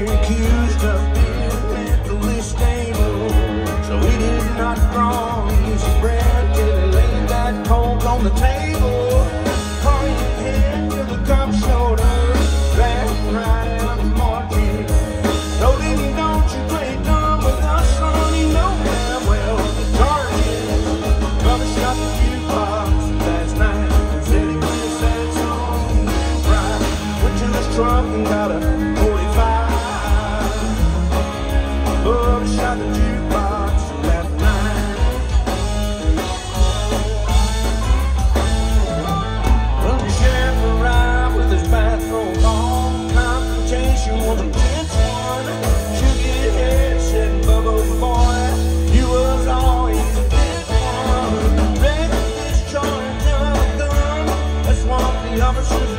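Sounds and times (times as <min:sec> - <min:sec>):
country band playing: 0:00.0 - 0:55.9
drums keeping a steady beat: 0:00.0 - 0:55.9
sung lead vocal: 0:00.0 - 0:55.9.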